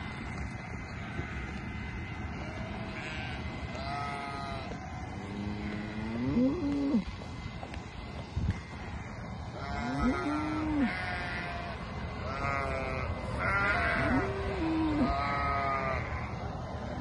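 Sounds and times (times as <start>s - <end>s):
sheep bleating: 0.3s - 7.2s, 8.5s - 16.4s.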